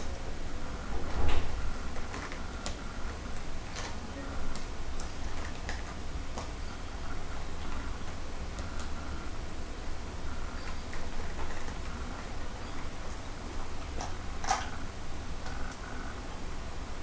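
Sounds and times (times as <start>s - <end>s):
faint high whine: 0.0s - 17.0s
low electrical hum: 0.0s - 17.0s.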